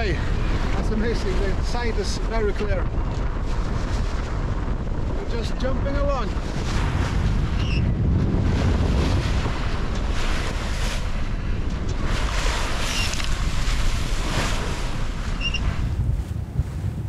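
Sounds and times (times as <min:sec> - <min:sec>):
waves rushing along hull: 0:00.0 - 0:17.0
wind buffeting microphone: 0:00.0 - 0:17.0.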